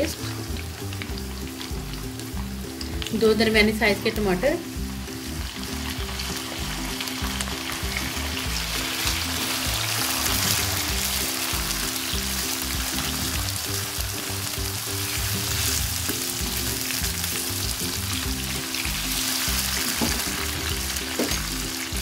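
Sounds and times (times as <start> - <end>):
background music: 0.0 - 22.0
oil sizzling in a wok: 0.0 - 22.0.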